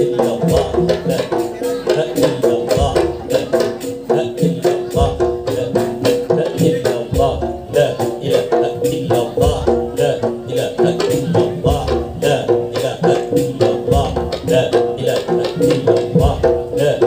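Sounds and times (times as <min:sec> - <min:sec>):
deep low beat: 0:00.0 - 0:17.0
quick drum strokes: 0:00.0 - 0:17.0.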